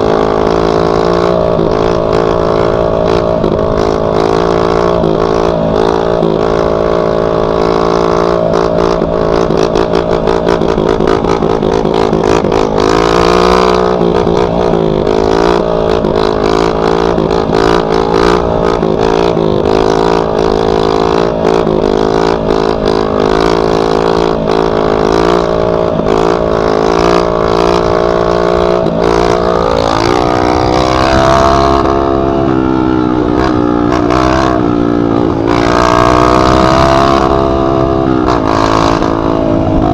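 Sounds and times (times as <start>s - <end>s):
loud dirt bike engine: 0.0s - 39.9s.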